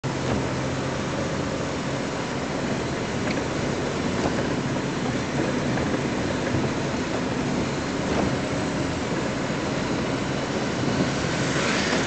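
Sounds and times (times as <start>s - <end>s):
low engine hum: 0.0s - 12.0s
tyre noise on wet road: 0.0s - 12.0s.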